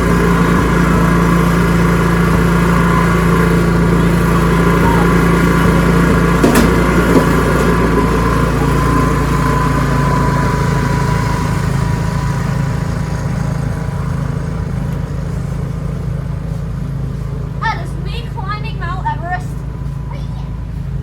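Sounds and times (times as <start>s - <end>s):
snowblower engine running: 0.0s - 21.0s.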